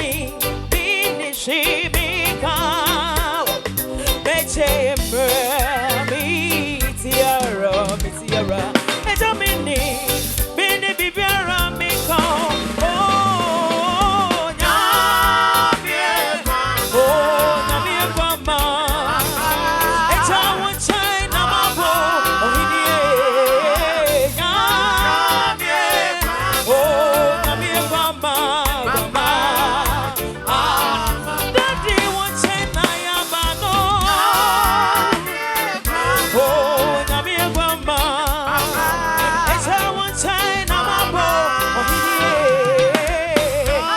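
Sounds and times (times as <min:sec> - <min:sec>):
instrumental backing music: 0:00.0 - 0:43.9
person singing with vibrato: 0:00.0 - 0:43.9.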